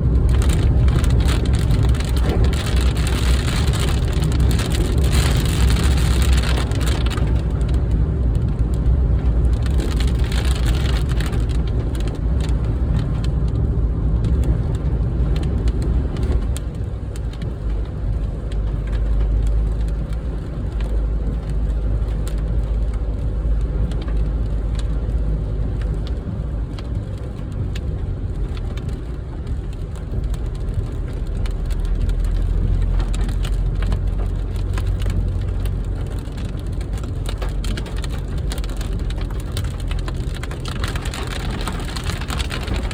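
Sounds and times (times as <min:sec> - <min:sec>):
heavy rain on a car: 0:00.0 - 0:42.9
low vehicle rumble: 0:00.0 - 0:42.9.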